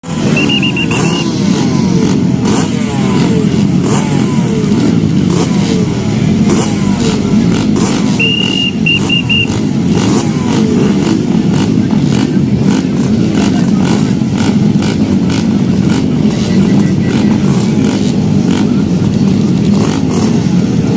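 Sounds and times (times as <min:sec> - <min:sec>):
dirt bike engines revving: 0:00.0 - 0:20.9.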